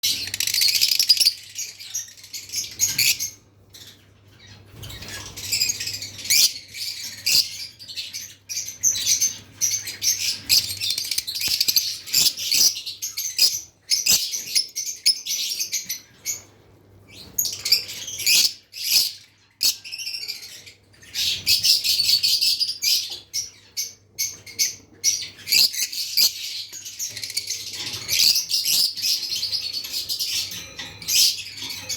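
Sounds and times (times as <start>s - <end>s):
lovebirds chirping: 0.0s - 31.9s.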